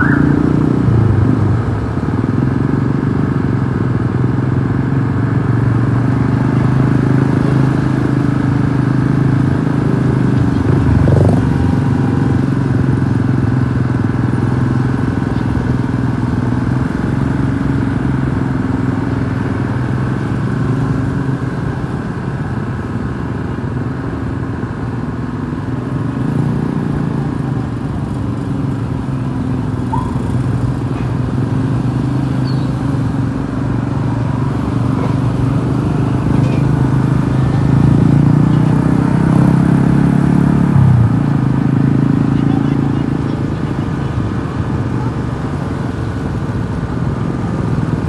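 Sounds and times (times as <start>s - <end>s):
bus engine running: 0.0s - 48.0s.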